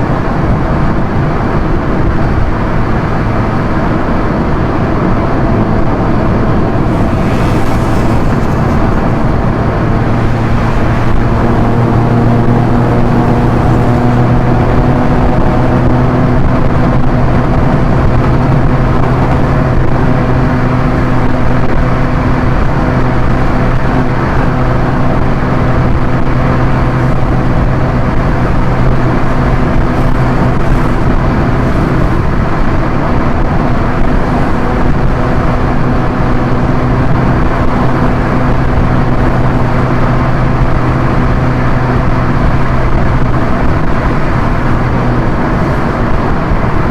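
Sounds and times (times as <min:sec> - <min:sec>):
car engine humming: 0:00.0 - 0:46.9
road noise: 0:00.0 - 0:46.9.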